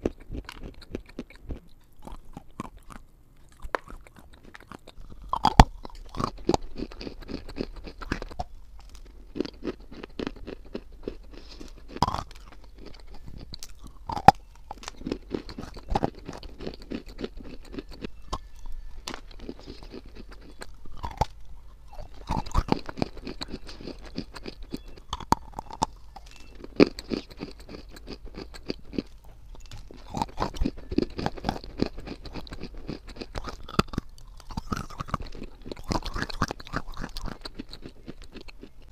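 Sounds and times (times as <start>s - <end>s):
chewing crunchy clay: 0.0s - 38.9s.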